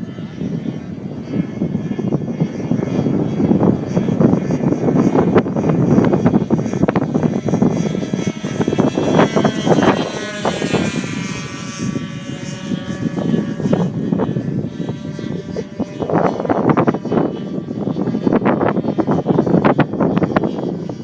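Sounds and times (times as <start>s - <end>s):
model plane engine and propeller: 0.0s - 21.0s.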